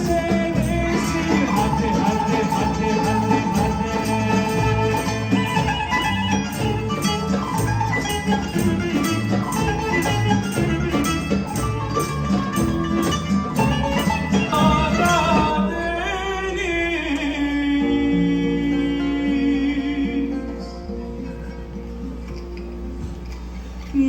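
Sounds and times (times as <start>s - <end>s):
instrumental pop band music: 0.0s - 24.0s.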